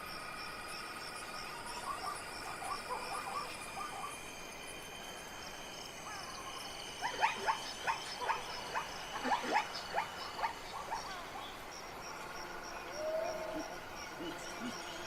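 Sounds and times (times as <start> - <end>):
frogs calling: 0.0 - 15.0
insects chorus: 0.0 - 15.0.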